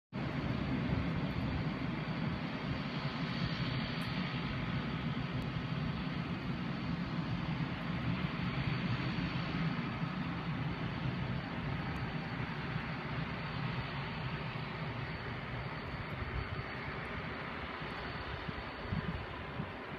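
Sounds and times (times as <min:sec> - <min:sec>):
distant aircraft engines rumbling: 0:00.2 - 0:19.9.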